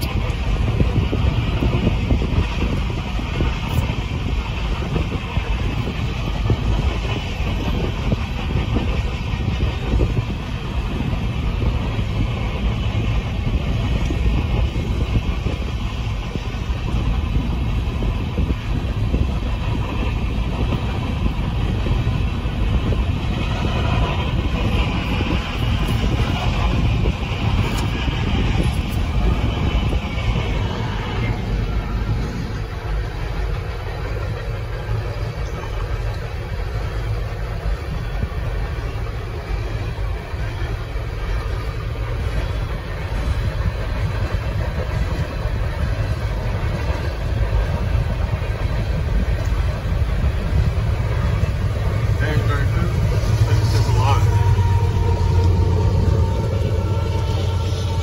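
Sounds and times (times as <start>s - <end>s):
train cars rolling rumble: 0.0s - 58.0s.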